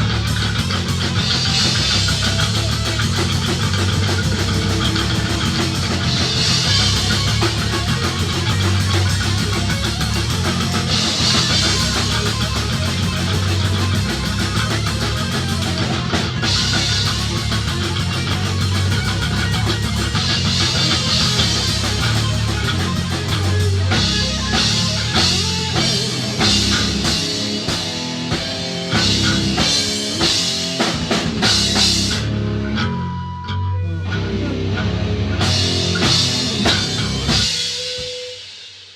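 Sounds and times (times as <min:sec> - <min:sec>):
low bass notes: 0:00.0 - 0:37.6
drum kit: 0:00.0 - 0:38.9
electric guitar: 0:00.0 - 0:38.9.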